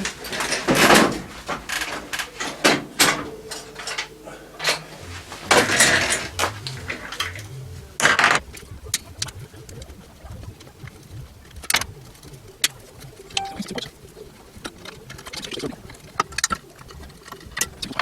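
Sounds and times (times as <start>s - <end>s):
pigeon cooing: 0.0s - 18.0s.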